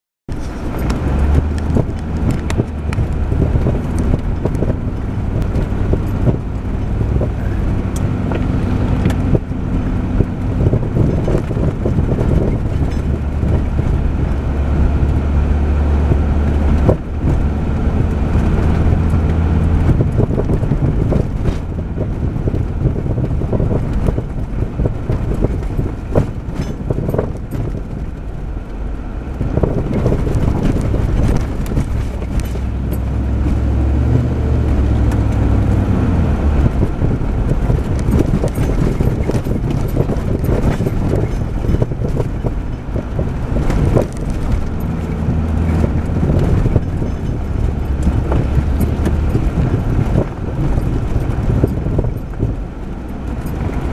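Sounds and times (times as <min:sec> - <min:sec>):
car body rattles and knocks: 0:00.3 - 0:53.9
car engine humming: 0:00.3 - 0:53.9.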